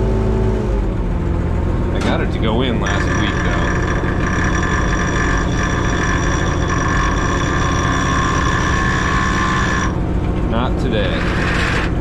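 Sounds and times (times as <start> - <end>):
tractor engine running: 0.0 - 12.0
high-pitched whine: 2.0 - 12.0.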